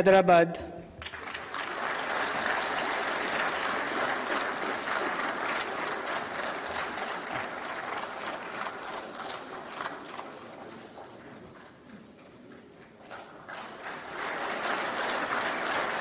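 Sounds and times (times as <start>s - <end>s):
audience applauding: 1.0s - 16.0s.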